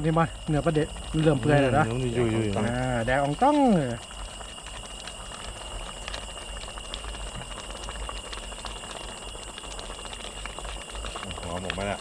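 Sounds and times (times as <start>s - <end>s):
broth bubbling in a pot: 0.0s - 12.0s.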